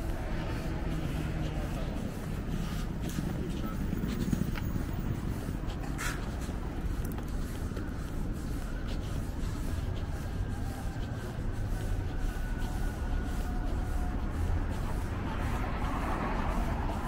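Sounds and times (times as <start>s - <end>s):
cars running along road: 0.0s - 17.0s.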